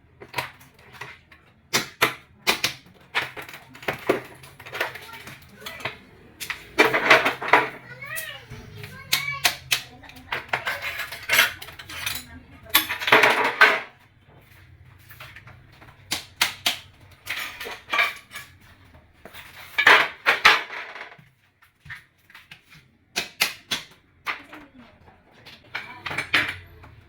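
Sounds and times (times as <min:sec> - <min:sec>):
tools scraping on ceramic tile: 0:00.2 - 0:24.6.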